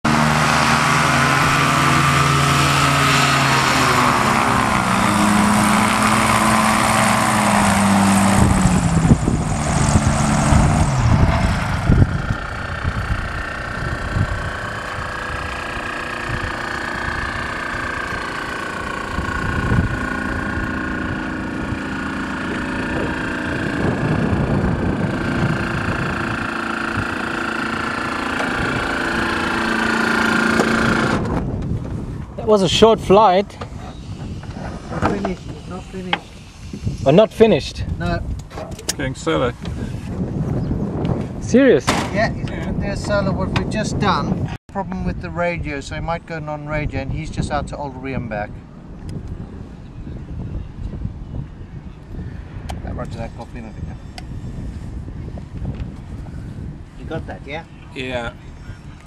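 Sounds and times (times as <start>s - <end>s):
aircraft engine and propeller: 0.0s - 59.0s
rough buffeting noise: 0.0s - 59.0s.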